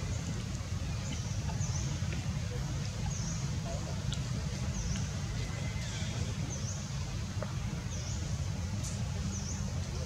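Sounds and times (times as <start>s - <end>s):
low outdoor rumble with hiss: 0.0s - 10.0s.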